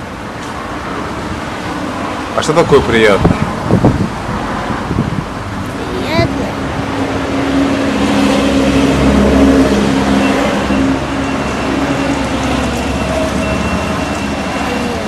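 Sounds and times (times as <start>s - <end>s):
low traffic rumble: 0.0s - 15.0s
vehicle engine humming: 0.0s - 15.0s.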